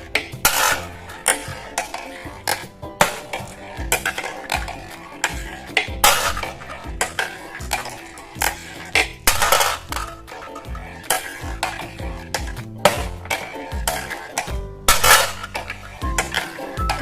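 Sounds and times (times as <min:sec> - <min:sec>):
background music: 0:00.0 - 0:17.0
marbles clattering along marble run: 0:00.0 - 0:17.0.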